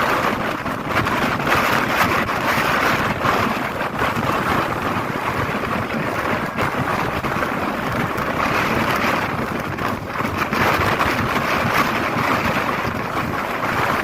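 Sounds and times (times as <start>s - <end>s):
strong gusting wind: 0.0s - 14.0s.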